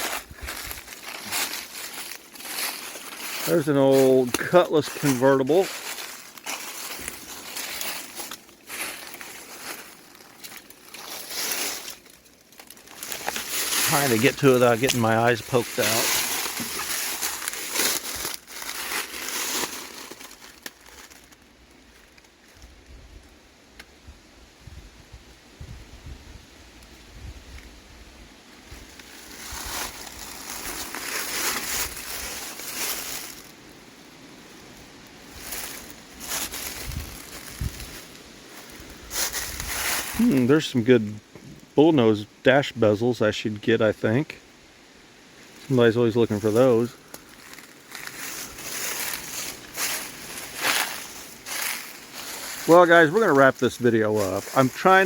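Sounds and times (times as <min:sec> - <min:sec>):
dry brush and leaves rustling: 0:00.0 - 0:24.3, 0:25.7 - 0:42.1, 0:44.0 - 0:55.0.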